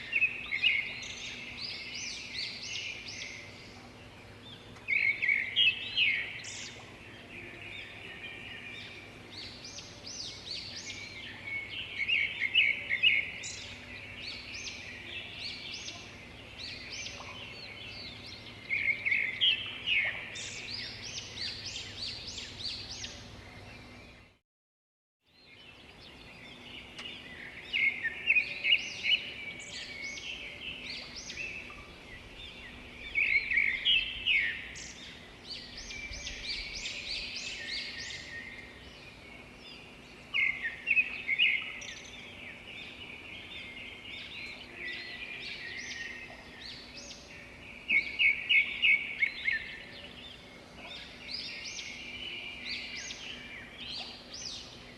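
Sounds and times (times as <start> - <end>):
faint steady hum: 0.0 - 24.4, 25.4 - 54.9
songbirds chirping: 0.0 - 24.4, 25.3 - 54.9.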